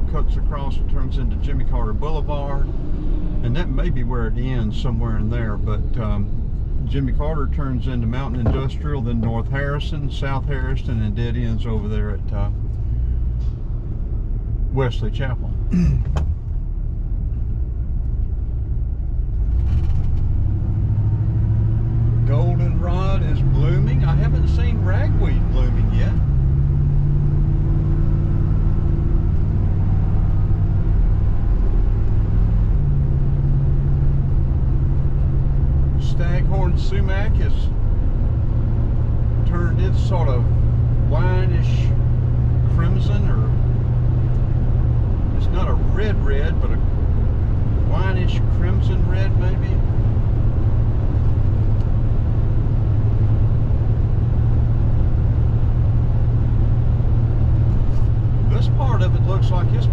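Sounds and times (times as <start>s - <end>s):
car engine hum: 0.0s - 59.9s.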